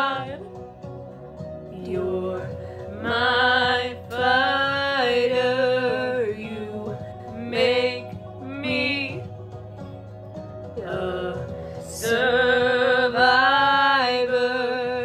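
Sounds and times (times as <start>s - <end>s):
woman singing with vibrato: 0.0s - 0.4s, 1.7s - 9.3s, 10.8s - 15.0s
instrumental backing track: 0.0s - 15.0s.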